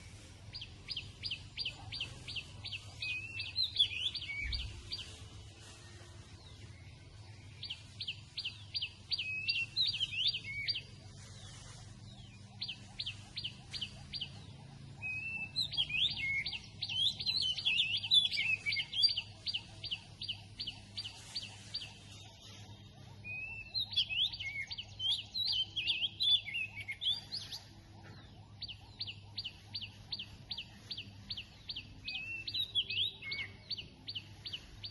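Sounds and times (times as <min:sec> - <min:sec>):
birds singing in dawn chorus: 0:00.0 - 0:34.9.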